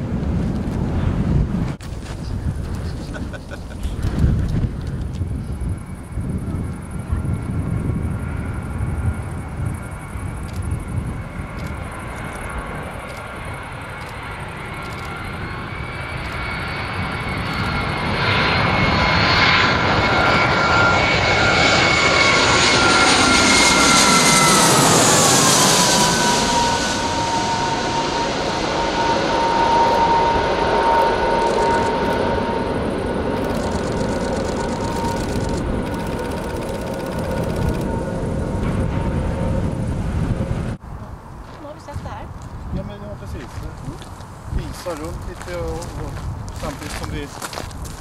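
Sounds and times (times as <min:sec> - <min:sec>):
jet airliner passing overhead: 0:00.0 - 0:48.0.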